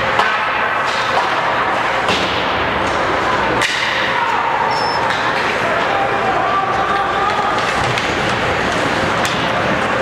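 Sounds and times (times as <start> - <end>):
crowd din in ice rink: 0.0 - 10.0.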